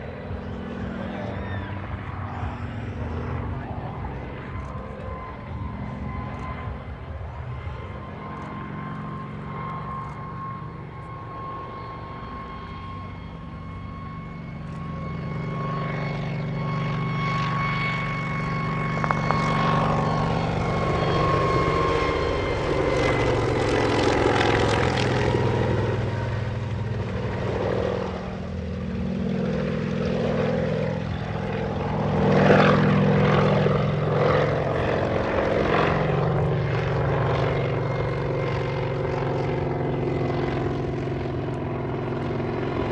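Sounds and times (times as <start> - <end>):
helicopter engine drone: 0.0 - 42.9
helicopter rotor beat: 0.0 - 42.9
steady whine dropping in pitch: 0.0 - 42.9.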